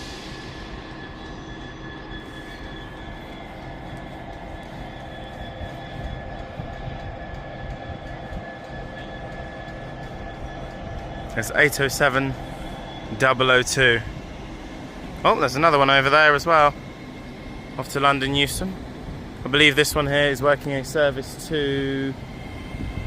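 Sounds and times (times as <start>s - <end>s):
electric train whine: 0.0s - 23.0s
wheels rumbling on rail: 0.0s - 23.0s.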